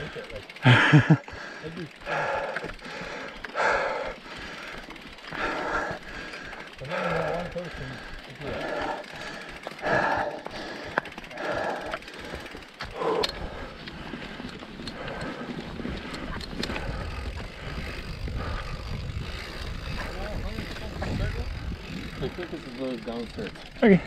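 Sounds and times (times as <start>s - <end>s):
heavy breathing: 0.0s - 19.9s
bike clicks and rattles: 0.0s - 24.0s
tyres and wind rumble: 0.8s - 24.0s.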